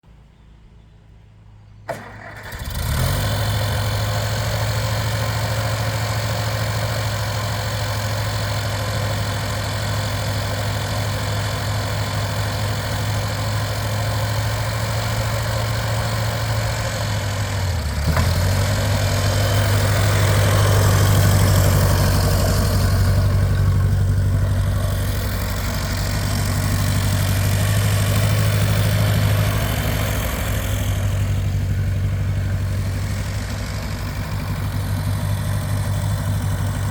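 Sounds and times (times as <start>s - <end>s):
tractor engine idling: 1.9s - 36.9s.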